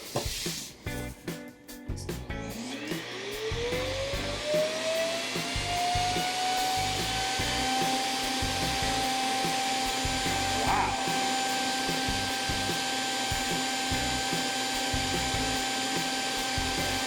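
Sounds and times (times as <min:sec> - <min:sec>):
suction motor whine: 0:02.6 - 0:17.0.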